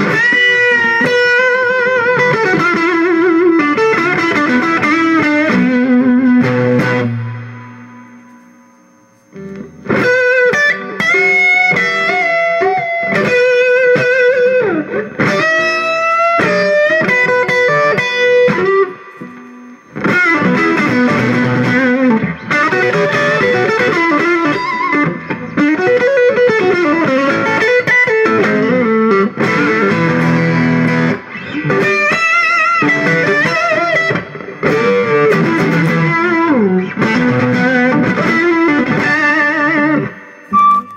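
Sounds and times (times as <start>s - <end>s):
distorted electric guitar lead: 0.0s - 40.9s.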